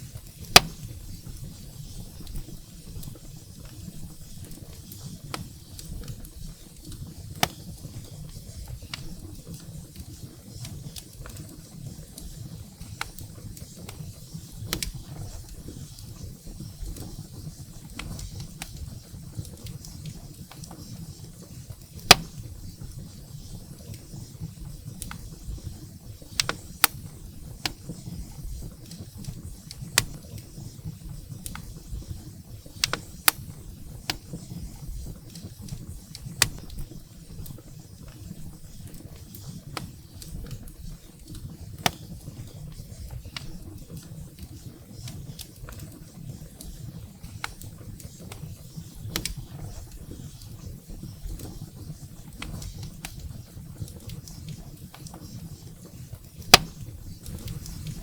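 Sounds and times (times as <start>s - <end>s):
firewood crackles and pops: 0.0s - 58.0s.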